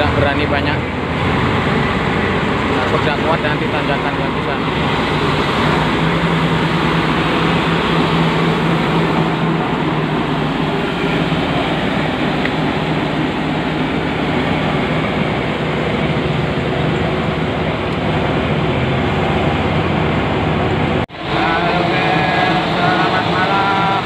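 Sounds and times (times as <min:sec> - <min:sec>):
bulldozer engines droning: 0:00.0 - 0:24.0.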